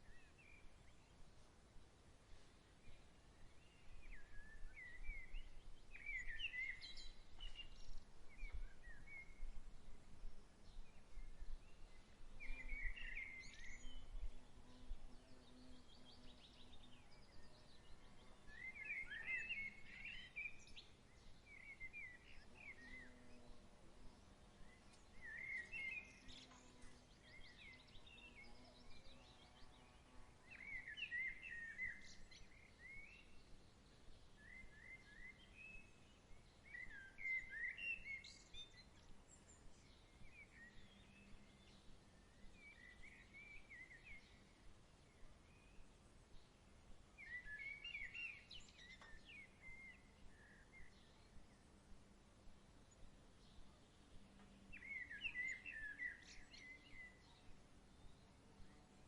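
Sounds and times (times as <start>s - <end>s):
faint breeze: 0.0s - 59.0s
songbird chirping: 0.0s - 59.0s.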